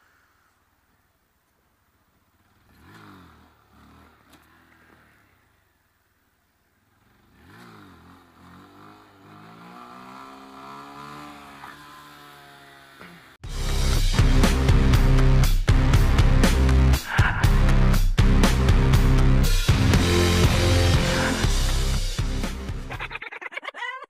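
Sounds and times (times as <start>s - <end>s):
motorcycle engine revving: 2.1s - 6.0s, 6.7s - 23.0s.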